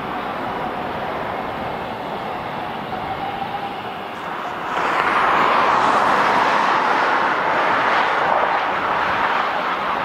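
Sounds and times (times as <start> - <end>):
jet engines passing close: 0.0 - 10.0.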